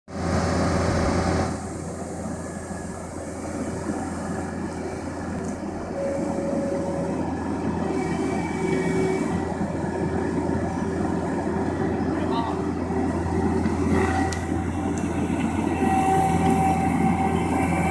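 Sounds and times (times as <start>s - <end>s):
diesel engine rumbling: 0.1s - 17.9s.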